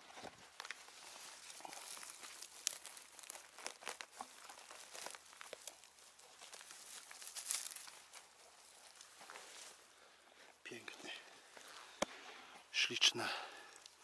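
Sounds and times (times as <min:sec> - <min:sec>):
rustling and crackling: 0:00.0 - 0:12.8.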